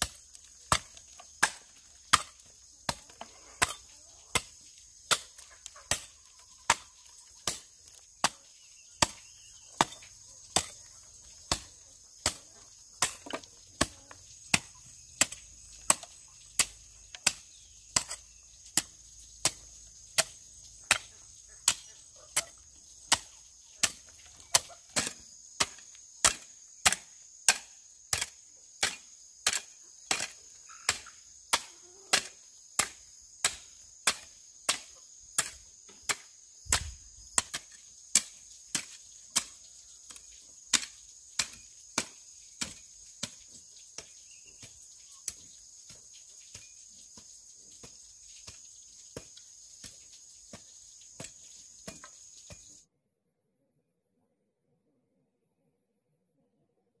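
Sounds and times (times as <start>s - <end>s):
high insect drone: 0.0s - 52.8s
hoe chopping into dry soil: 0.0s - 52.8s.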